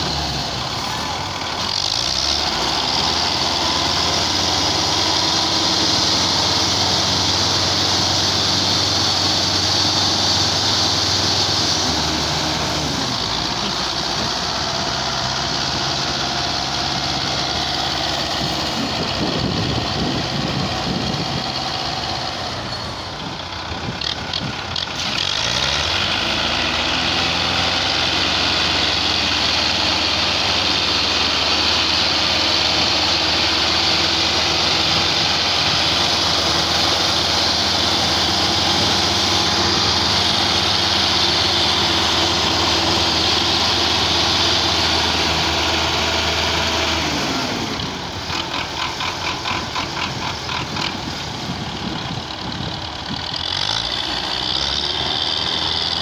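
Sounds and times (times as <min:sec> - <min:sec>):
tractor engine revving under load: 0:00.0 - 0:56.0.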